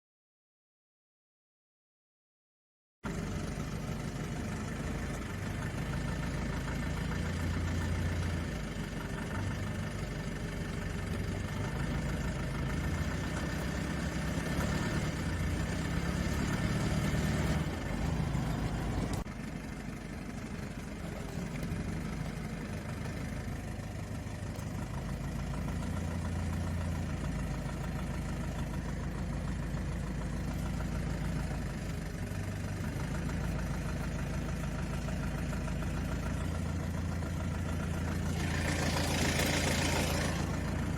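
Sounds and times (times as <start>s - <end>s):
car engine running at low revs: 3.0s - 40.9s
engine knocking: 3.0s - 40.9s.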